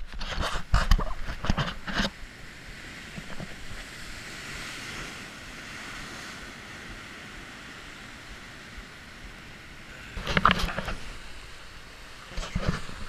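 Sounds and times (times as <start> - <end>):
surf breaking on rocks: 1.4 - 13.0.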